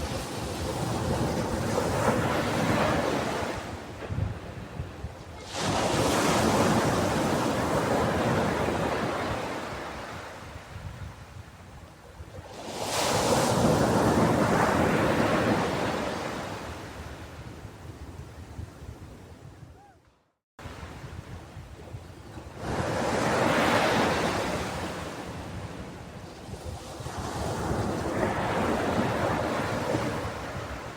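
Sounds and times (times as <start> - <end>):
ocean waves breaking on shore: 0.0 - 11.4, 12.3 - 18.2, 20.6 - 30.9.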